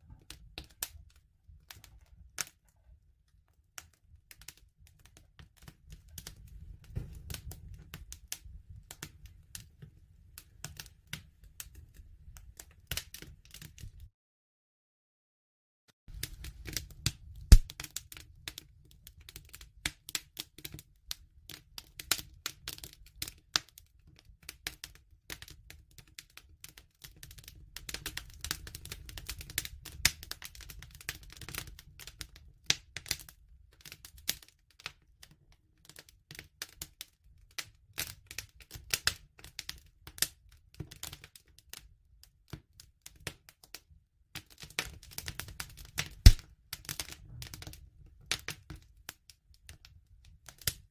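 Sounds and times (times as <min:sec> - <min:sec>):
wood fire crackling: 0:00.0 - 0:14.1, 0:16.1 - 0:41.9, 0:42.5 - 0:50.9.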